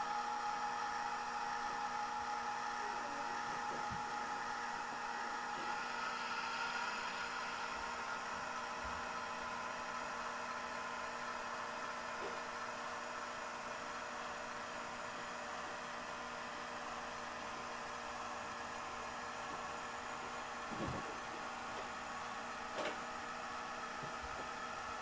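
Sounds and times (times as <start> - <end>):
simulated diesel engine hum: 0.0 - 25.0.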